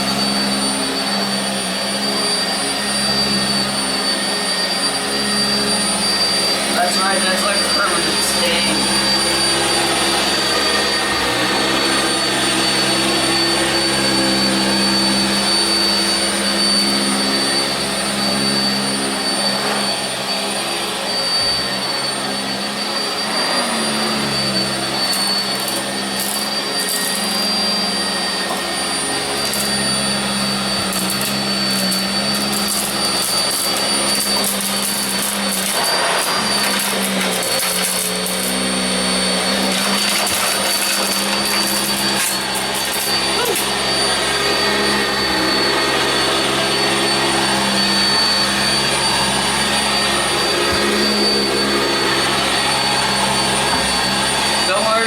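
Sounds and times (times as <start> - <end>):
upright vacuum running: 0.0 - 55.0.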